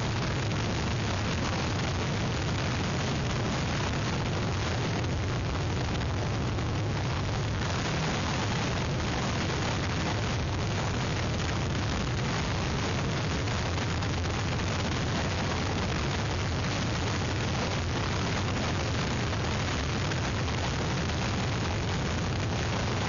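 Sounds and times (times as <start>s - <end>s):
wind rushing into microphone: 0.0s - 23.0s.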